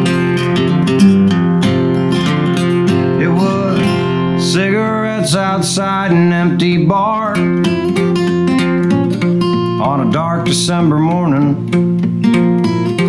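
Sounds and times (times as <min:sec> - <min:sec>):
acoustic guitar strummed and picked: 0:00.0 - 0:13.0.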